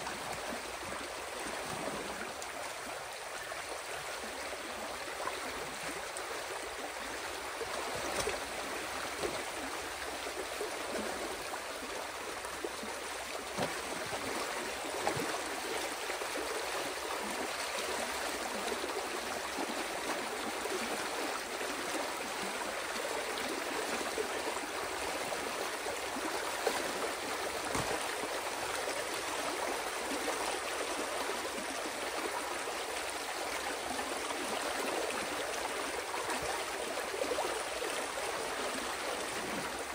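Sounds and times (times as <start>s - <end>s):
water rushing through a channel: 0.0s - 39.9s.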